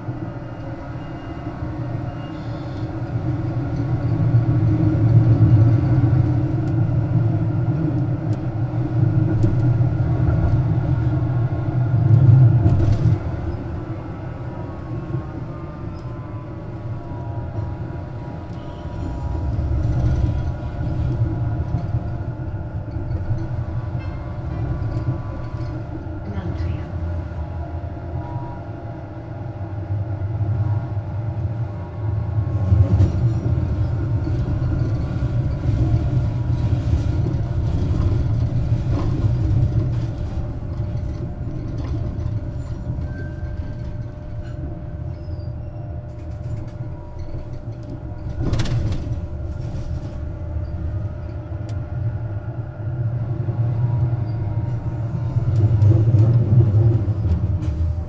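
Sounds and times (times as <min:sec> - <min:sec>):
tram rumbling with whining tones: 0:00.0 - 0:58.0.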